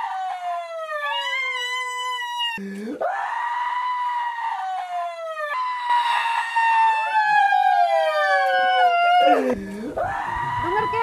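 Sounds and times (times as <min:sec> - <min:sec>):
women wailing: 0:00.0 - 0:11.0.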